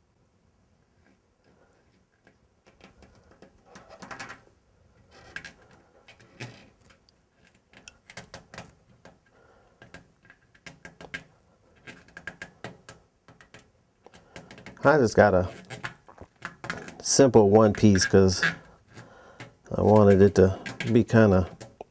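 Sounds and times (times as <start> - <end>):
hands rubbing and rustling a pad: 0.8 - 21.9.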